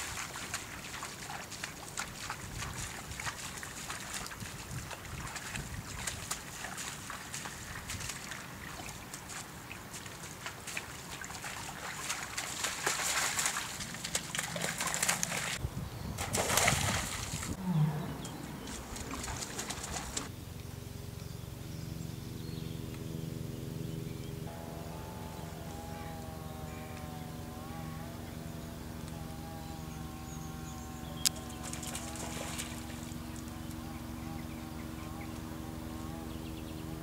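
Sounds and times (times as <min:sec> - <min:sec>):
animals splashing through water: 0:00.0 - 0:15.6, 0:16.2 - 0:20.3, 0:24.5 - 0:37.0.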